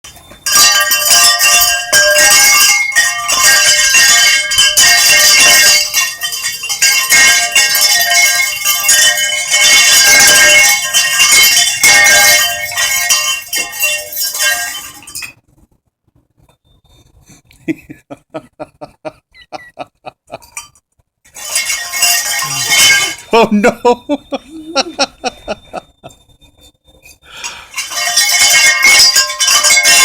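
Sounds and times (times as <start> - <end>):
metal chimes jangling: 0.0 - 15.7, 16.6 - 30.0.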